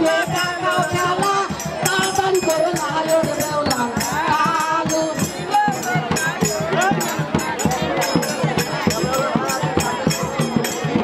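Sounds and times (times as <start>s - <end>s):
barrel drum beat: 0.0s - 11.0s.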